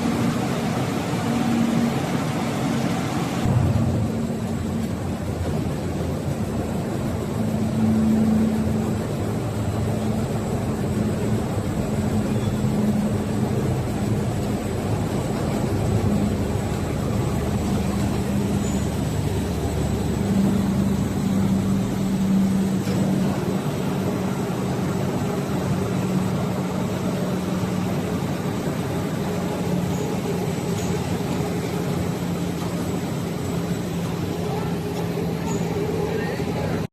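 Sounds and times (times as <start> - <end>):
faint high whine: 0.0 - 36.9
industrial drone with low hum: 0.0 - 36.9.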